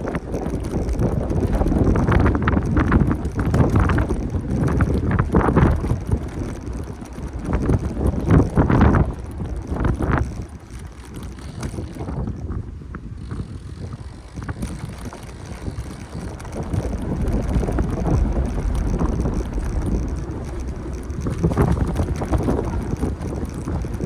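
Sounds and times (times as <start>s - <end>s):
street noise: 0.0s - 24.0s
wind buffeting microphone: 0.0s - 24.0s.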